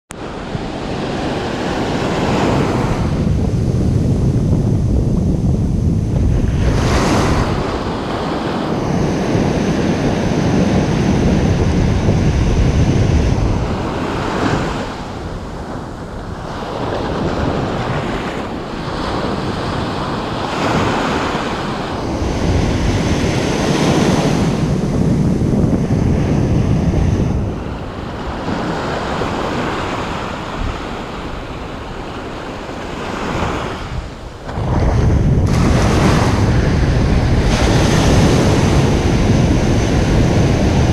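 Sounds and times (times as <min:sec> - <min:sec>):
waves breaking: 0:00.1 - 0:40.9
wind buffeting microphone: 0:00.1 - 0:40.9.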